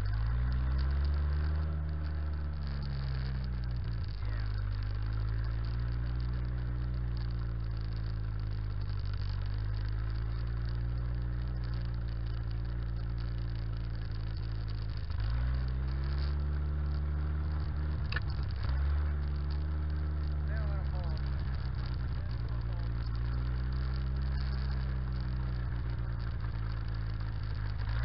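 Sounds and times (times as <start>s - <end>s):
jeep engine running: 0.0s - 28.0s.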